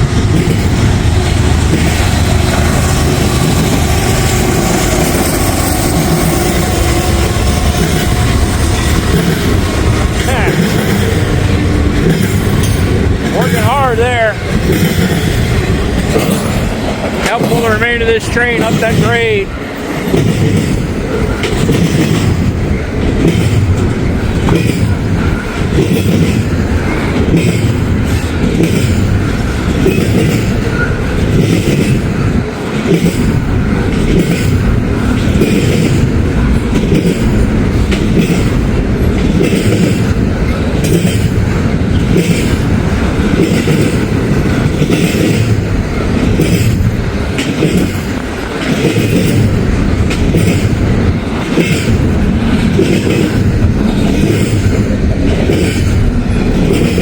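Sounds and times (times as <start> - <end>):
freight train wheels clicking: 0.0 - 57.0
wind buffeting microphone: 0.0 - 57.0.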